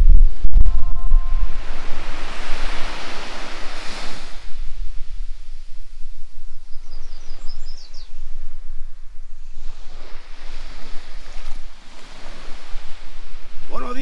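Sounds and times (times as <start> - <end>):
wind rumbling on microphone: 0.0 - 14.0
small waves washing onto sand: 0.2 - 14.0.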